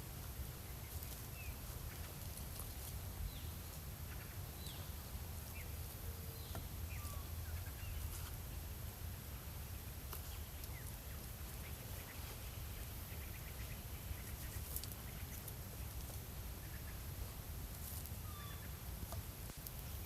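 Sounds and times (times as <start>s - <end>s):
birds chirping: 0.0s - 8.6s, 9.4s - 20.0s.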